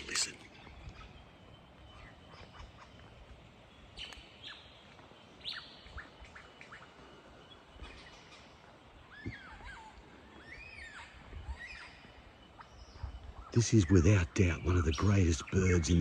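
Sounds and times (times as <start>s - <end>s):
lyrebird singing: 0.0s - 16.0s.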